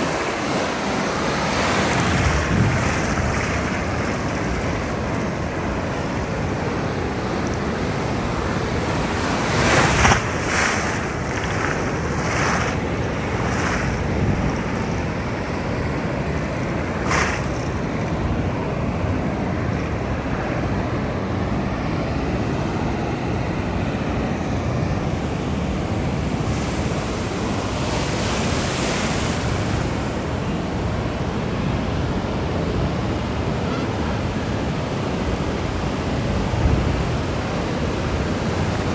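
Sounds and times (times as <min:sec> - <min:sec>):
ocean waves washing: 0:00.0 - 0:38.9
waves crashing: 0:00.0 - 0:38.9.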